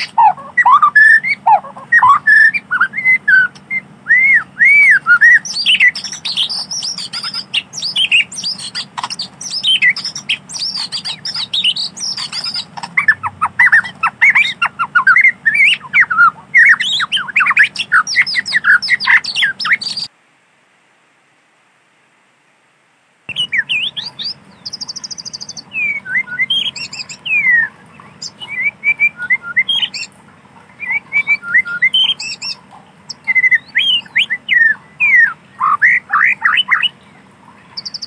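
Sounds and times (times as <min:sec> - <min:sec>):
bird singing whistles and trills: 0:00.0 - 0:20.1, 0:23.3 - 0:30.1, 0:30.8 - 0:38.0.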